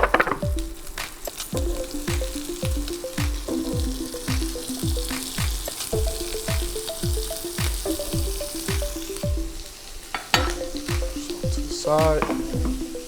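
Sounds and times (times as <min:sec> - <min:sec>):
background music with bass drum: 0:00.0 - 0:09.7, 0:10.3 - 0:13.0
vegetables sizzling in a pan: 0:00.0 - 0:13.0.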